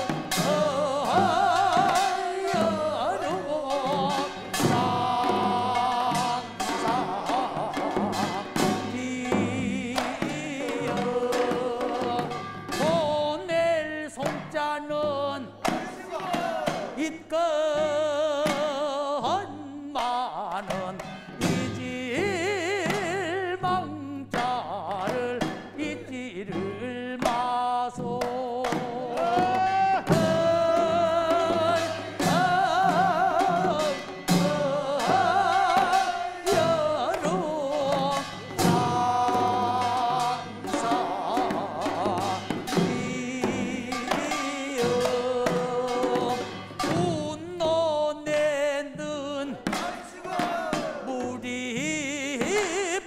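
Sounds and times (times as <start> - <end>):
drum beats: 0.0 - 53.0
folk song voices singing: 0.0 - 53.0.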